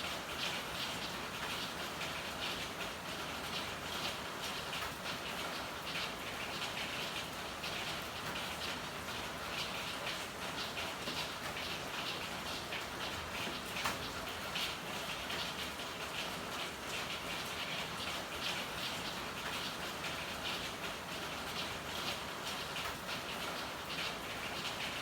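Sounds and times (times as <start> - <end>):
rain spattering on hard surfaces: 0.0 - 25.0.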